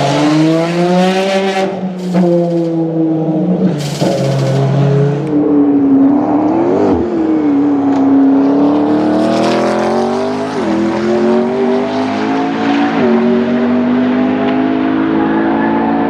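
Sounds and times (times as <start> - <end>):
car engine accelerating with upshifts: 0.0 - 16.0.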